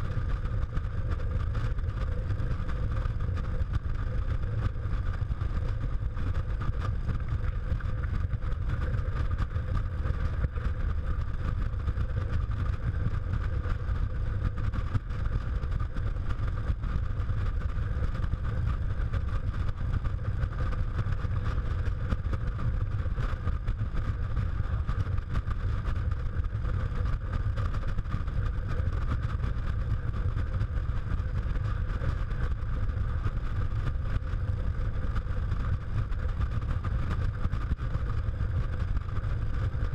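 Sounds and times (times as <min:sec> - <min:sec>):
motorcycle engine drone: 0:00.0 - 0:39.9
wind rumbling on microphone: 0:00.0 - 0:39.9.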